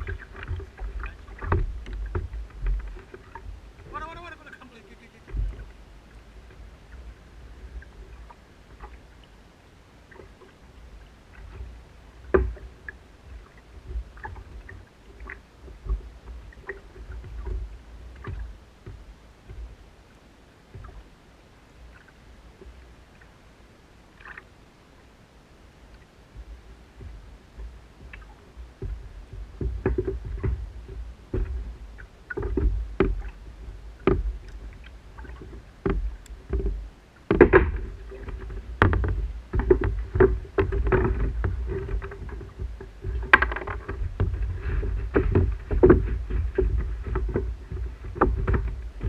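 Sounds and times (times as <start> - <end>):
water knocking and splashing on hull: 0.0 - 21.2, 24.1 - 24.5, 25.8 - 49.0.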